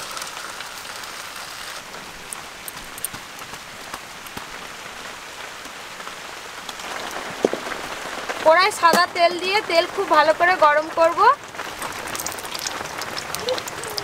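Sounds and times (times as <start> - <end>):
water and rice splashing: 0.0 - 10.2, 11.3 - 14.0.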